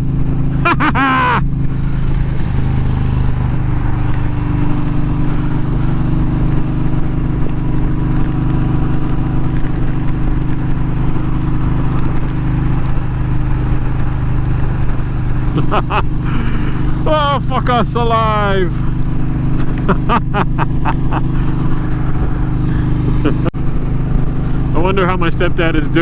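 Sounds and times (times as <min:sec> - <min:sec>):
motorcycle engine cruising: 0:00.0 - 0:26.0
wind and wet road noise: 0:00.0 - 0:26.0.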